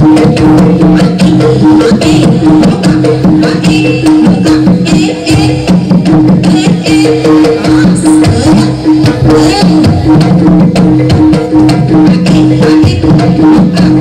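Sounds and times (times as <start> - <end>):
hand drums playing: 0.0 - 14.0.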